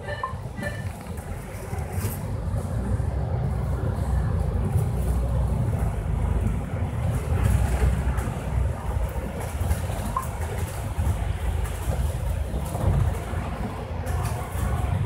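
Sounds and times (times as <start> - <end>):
bus engine drone: 0.0 - 15.0
tyre noise on wet road: 0.0 - 15.0.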